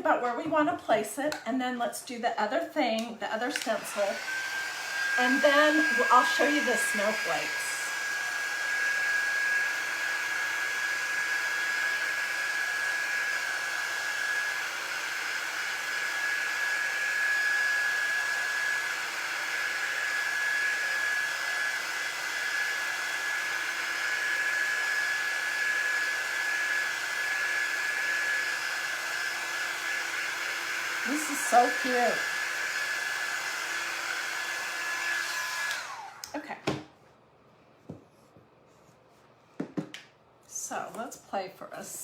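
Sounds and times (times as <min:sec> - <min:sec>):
hot-air dryer blowing with whine: 0:03.0 - 0:36.9.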